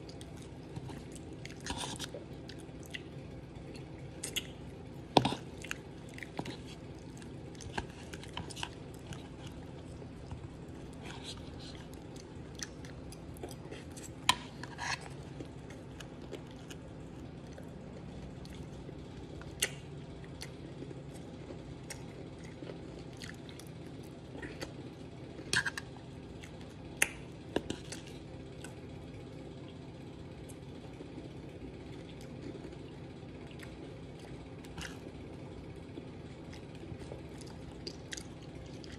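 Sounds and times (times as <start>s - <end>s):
man chewing food: 0.0s - 38.9s
steady low hum: 0.0s - 38.9s.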